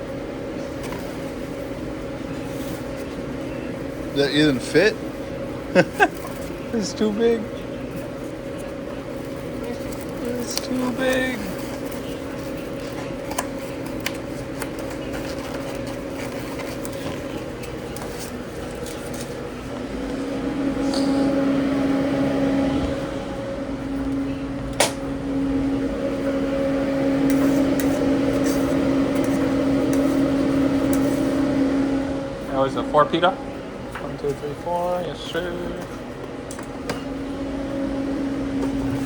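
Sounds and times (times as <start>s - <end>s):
kitchen equipment humming: 0.0s - 39.0s.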